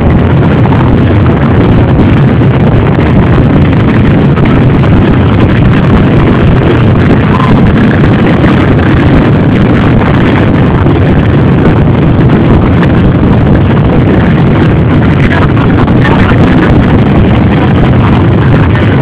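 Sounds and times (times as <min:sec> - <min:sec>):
motorcycle and quad engines running: 0:00.0 - 0:19.0.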